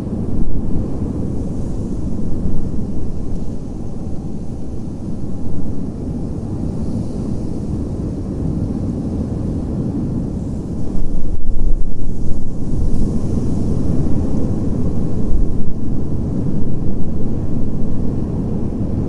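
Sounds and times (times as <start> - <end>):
wind blowing in gusts: 0.0 - 19.0.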